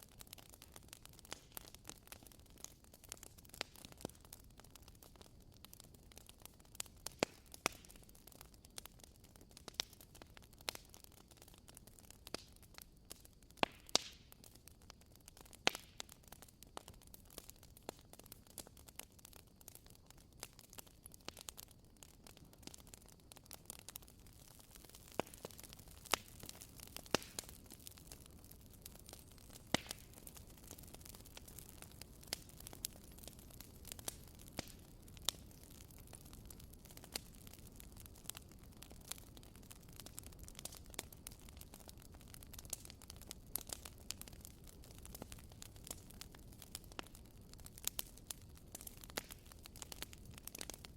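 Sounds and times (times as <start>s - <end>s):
burning firewood crackling: 0.0s - 50.9s
faint steady hiss: 0.0s - 50.9s.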